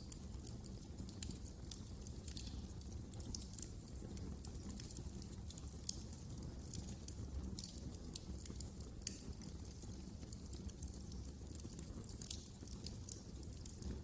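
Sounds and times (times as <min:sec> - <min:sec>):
low rumble of burning fire: 0:00.0 - 0:14.0
wood fire pops and snaps: 0:00.0 - 0:14.0.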